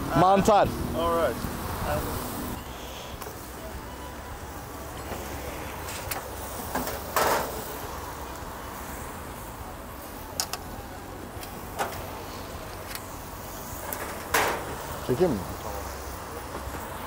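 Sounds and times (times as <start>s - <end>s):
restaurant background noise: 0.0s - 17.0s.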